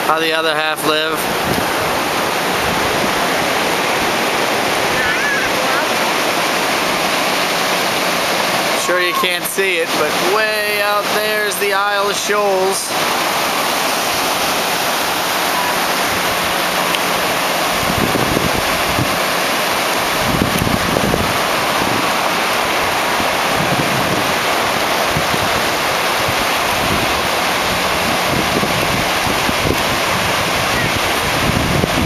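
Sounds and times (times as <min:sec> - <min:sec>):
ocean surf breaking: 0:00.0 - 0:32.0
wind gusting on microphone: 0:00.8 - 0:11.5, 0:12.3 - 0:32.0.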